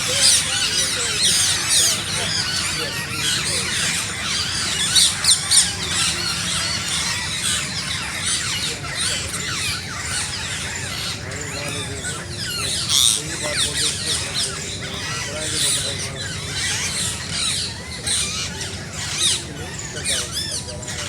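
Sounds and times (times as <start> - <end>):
parrots chirping and squawking: 0.0 - 21.0.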